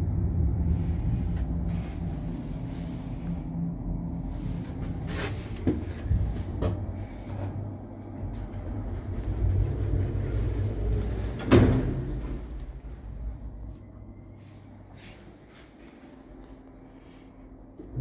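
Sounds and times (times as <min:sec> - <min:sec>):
lift humming: 0:00.0 - 0:18.0.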